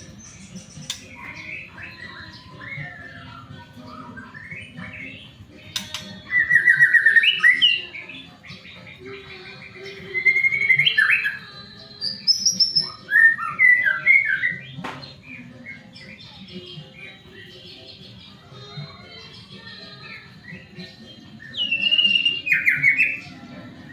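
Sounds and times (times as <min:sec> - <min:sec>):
bird singing trilled phrases: 0:00.0 - 0:23.9.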